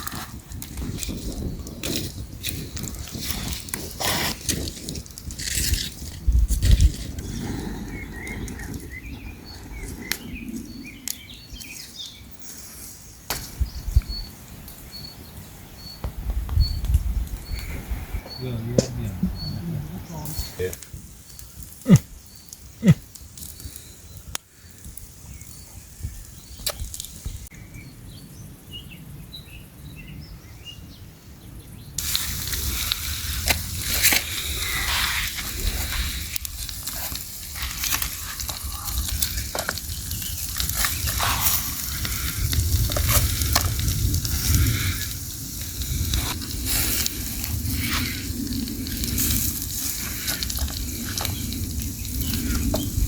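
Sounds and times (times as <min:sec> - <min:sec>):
food sizzling over campfire: 0:00.0 - 0:27.5, 0:32.0 - 0:53.0.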